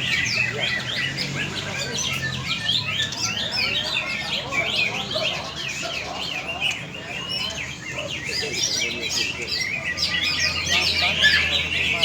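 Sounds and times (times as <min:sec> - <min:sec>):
birds chorus of whistled chirps: 0:00.0 - 0:12.0.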